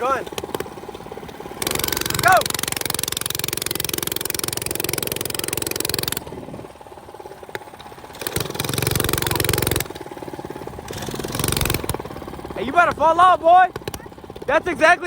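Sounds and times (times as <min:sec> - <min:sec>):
minibike engine revving: 0:00.0 - 0:15.0.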